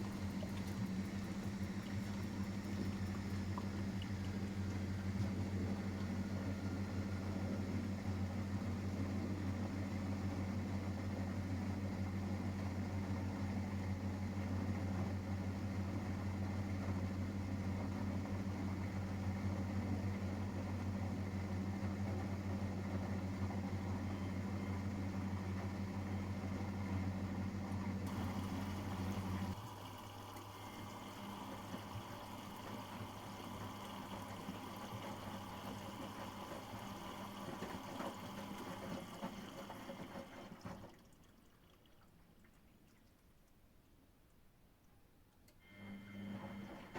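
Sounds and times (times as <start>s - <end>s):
washing machine humming: 0.0s - 43.5s, 45.6s - 46.9s.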